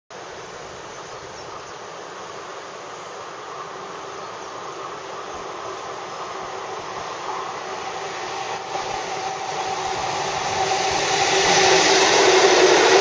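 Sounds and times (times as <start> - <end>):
freight train rumbling: 0.2 - 13.0.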